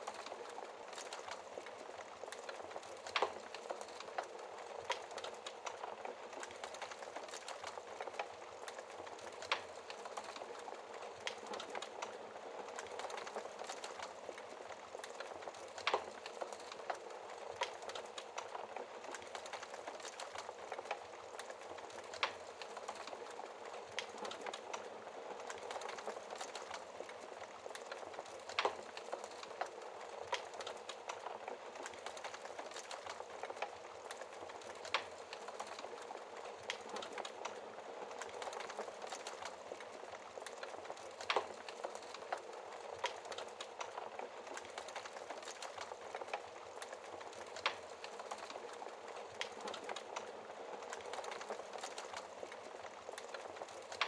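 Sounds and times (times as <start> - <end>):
fire crackling and popping: 0.0 - 54.0
soft hiss of flames: 0.0 - 54.0.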